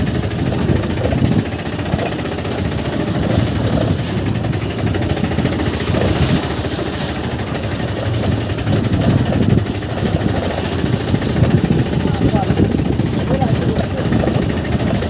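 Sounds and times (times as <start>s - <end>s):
motorcycle engine running low speed: 0.0s - 15.0s.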